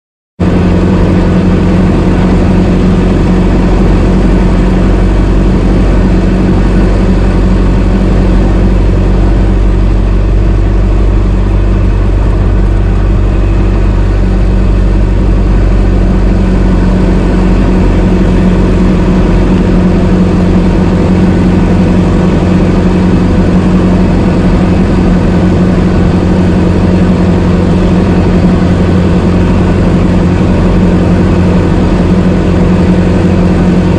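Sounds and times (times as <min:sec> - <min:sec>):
car engine running: 0:00.4 - 0:33.9.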